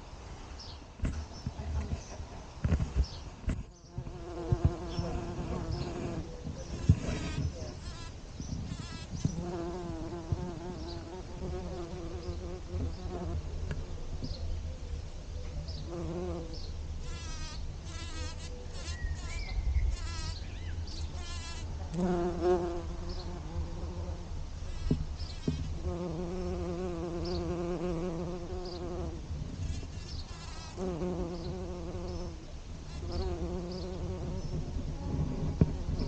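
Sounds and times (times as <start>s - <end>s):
bee buzzing: 3.0s - 13.8s, 15.9s - 36.0s.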